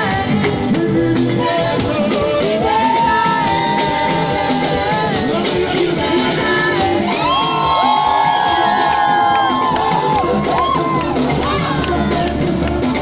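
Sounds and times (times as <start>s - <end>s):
backing vocalists: 0.0s - 13.0s
band playing gospel: 0.0s - 13.0s
lead singer: 0.0s - 13.0s.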